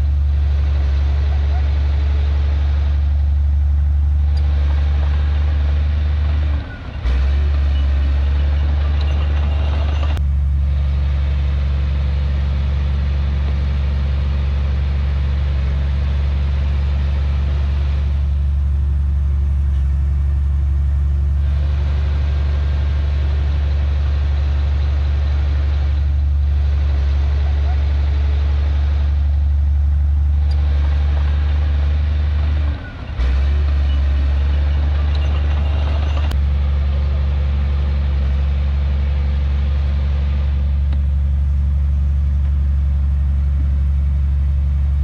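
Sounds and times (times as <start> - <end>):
heavy diesel engine humming: 0.0 - 45.0.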